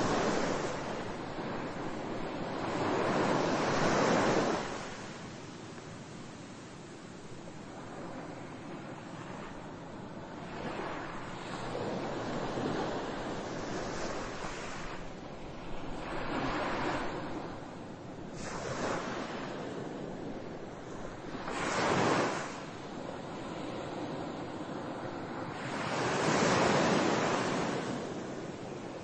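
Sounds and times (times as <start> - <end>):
ocean waves washing in: 0.0 - 29.0.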